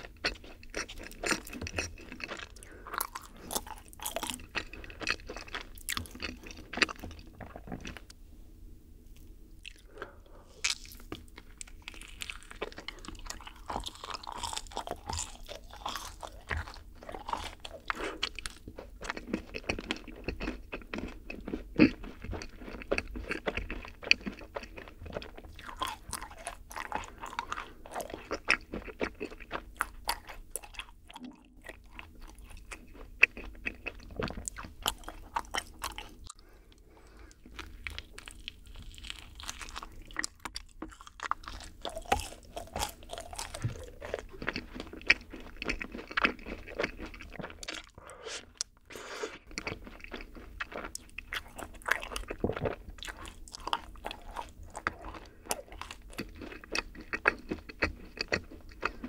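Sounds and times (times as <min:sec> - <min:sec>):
crunchy sticky chewing: 0:00.0 - 0:08.2, 0:09.2 - 0:59.0.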